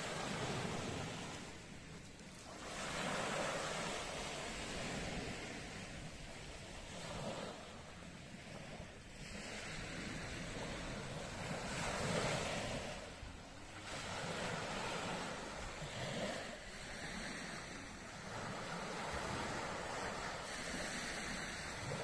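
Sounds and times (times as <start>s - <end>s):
waves breaking on shore: 0.0s - 22.0s.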